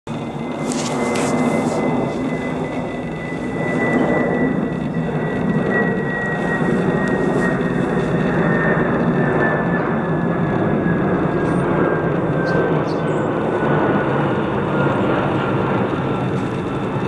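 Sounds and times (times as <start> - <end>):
aircraft droning overhead: 0.1 - 17.0
high whine dropping in pitch: 0.1 - 17.0.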